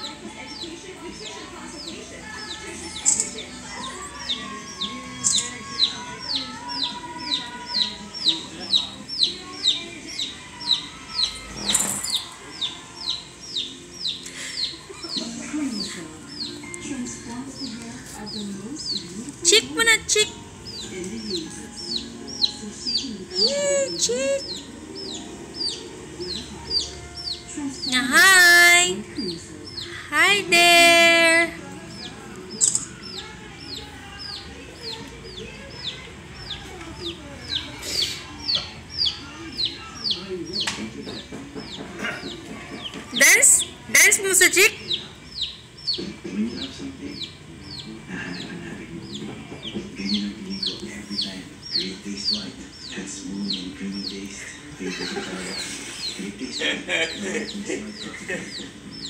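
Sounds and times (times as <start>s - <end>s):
chick peeping: 0.4s - 30.5s, 31.8s - 59.0s.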